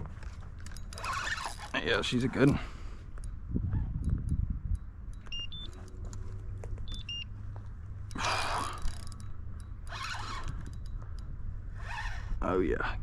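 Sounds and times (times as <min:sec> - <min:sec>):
steady low rumble: 0:01.7 - 0:13.0.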